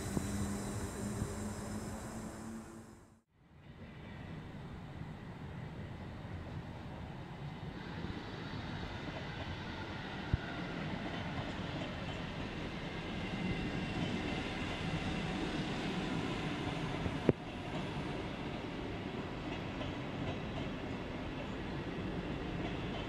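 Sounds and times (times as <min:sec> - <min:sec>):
train wheels rumbling on rails: 0:00.0 - 0:03.0, 0:07.4 - 0:23.0.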